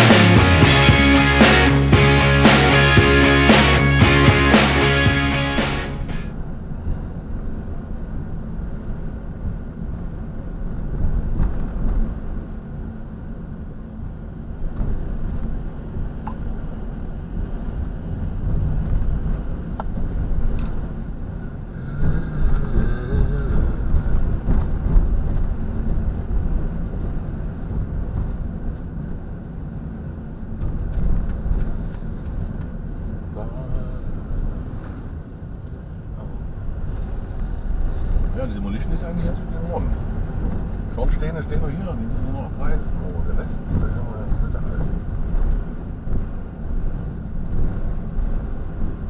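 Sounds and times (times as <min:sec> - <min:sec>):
vehicle engine and road rumble: 0:00.0 - 0:49.0.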